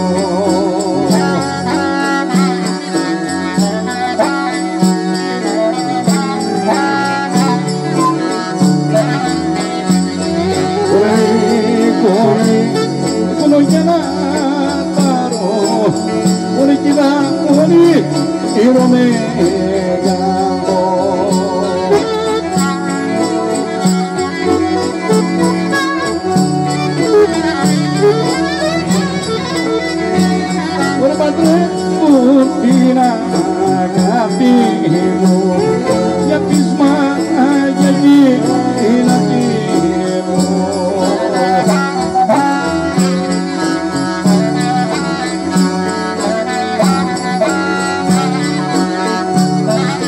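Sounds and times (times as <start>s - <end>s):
held drone tones: 0.0s - 50.0s
ornamented folk melody: 0.0s - 50.0s
percussion beat: 0.0s - 50.0s.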